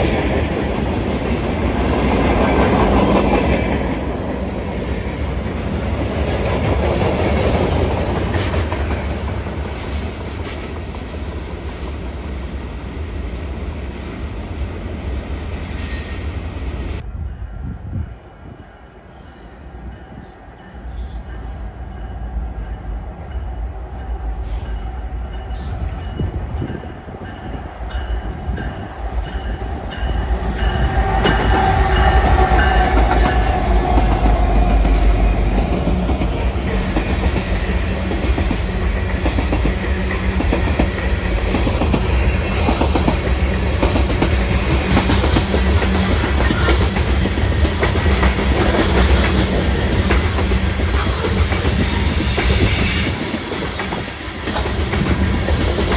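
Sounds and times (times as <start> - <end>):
train wheels clattering on rails: 0.0 - 12.0, 20.1 - 55.9.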